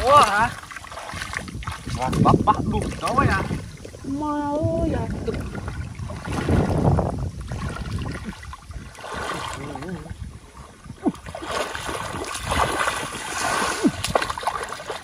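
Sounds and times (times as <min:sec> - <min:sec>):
shallow water sloshing: 0:00.0 - 0:15.0.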